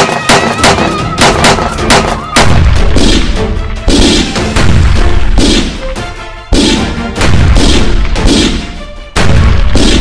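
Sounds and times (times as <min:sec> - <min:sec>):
dramatic background music: 0:00.0 - 0:10.0
heavy booming hits: 0:00.6 - 0:05.8, 0:06.6 - 0:08.6, 0:09.2 - 0:10.0.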